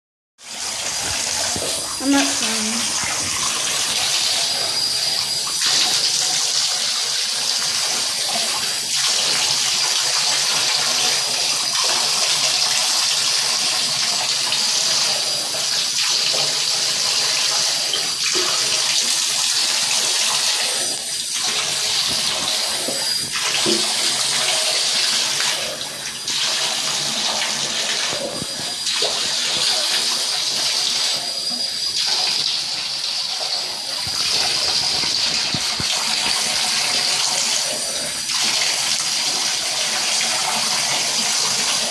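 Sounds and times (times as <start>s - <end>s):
water running into bathtub: 0.4s - 41.9s.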